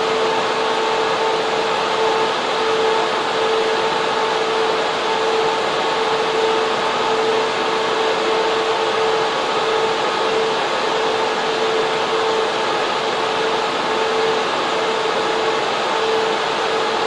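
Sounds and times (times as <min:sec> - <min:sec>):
constant whine: 0:00.0 - 0:17.0
server fans rushing hum: 0:00.0 - 0:17.0.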